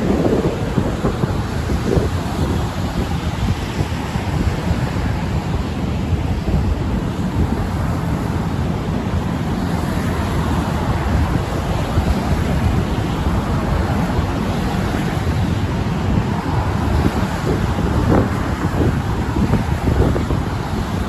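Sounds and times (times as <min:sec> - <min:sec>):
wind blowing on microphone: 0:00.0 - 0:21.0.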